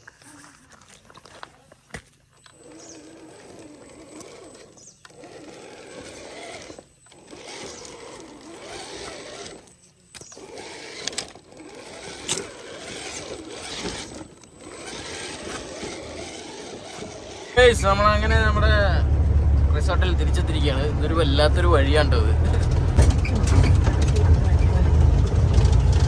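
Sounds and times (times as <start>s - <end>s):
electric motor whining: 2.3s - 26.0s.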